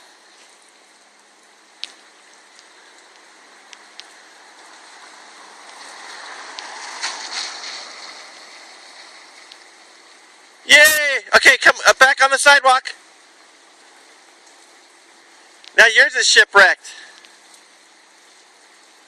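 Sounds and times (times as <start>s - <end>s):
rain dripping: 0.0s - 19.0s
rainwater rushing in gutter: 0.0s - 19.0s.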